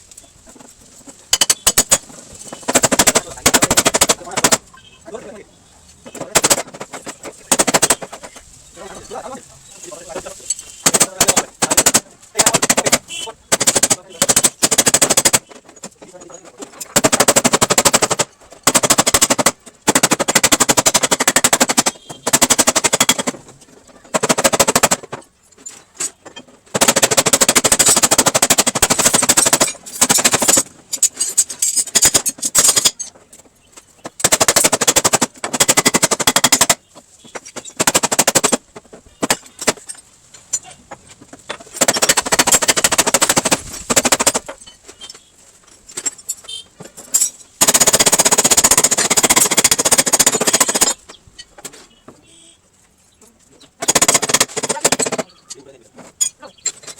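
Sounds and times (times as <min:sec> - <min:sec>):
rapid rattling on sheet metal: 0:00.4 - 0:05.3, 0:06.0 - 0:33.1, 0:34.0 - 0:36.9, 0:37.5 - 0:40.1, 0:41.4 - 0:44.6, 0:47.1 - 0:51.0, 0:53.8 - 0:55.5.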